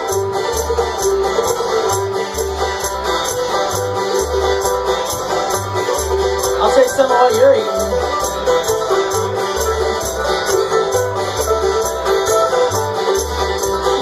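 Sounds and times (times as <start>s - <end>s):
acoustic guitar picking: 0.0s - 14.0s
banjo picking: 0.0s - 14.0s
bass line low notes: 0.0s - 14.0s
mandolin picking: 0.0s - 14.0s.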